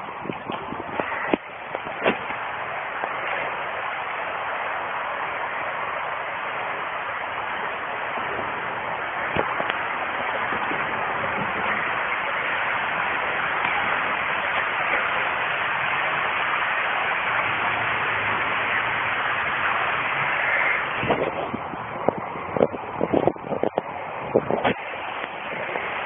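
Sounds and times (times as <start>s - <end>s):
stream water over rocks: 0.0s - 26.0s.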